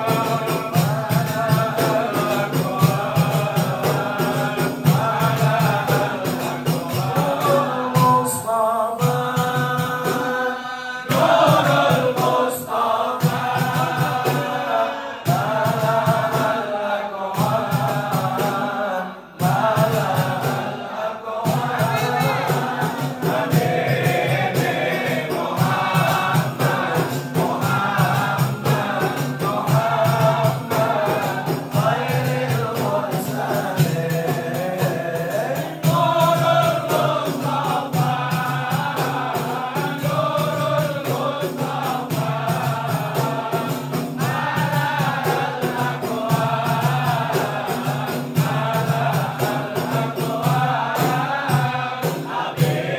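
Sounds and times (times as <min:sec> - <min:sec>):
men chanting together: 0:00.0 - 0:52.9.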